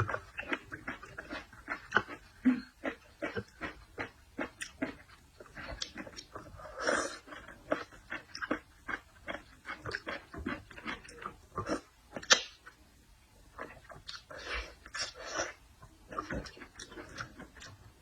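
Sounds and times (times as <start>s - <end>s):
wet chewing and lip-smacking: 0.0s - 12.8s, 13.6s - 17.8s.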